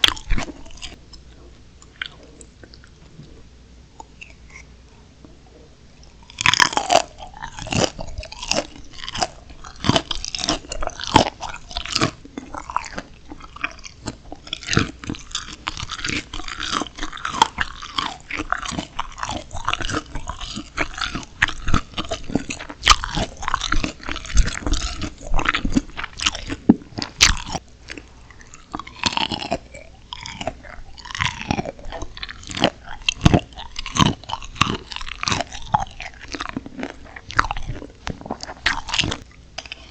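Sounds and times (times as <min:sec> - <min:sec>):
crunching bites and chewing: 0:00.0 - 0:03.4, 0:06.0 - 0:39.9.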